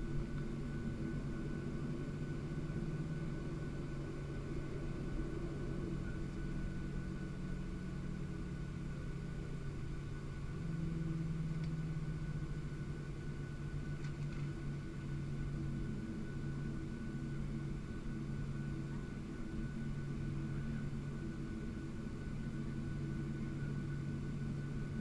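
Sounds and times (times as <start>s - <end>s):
aircraft engine drone: 0.0s - 25.0s.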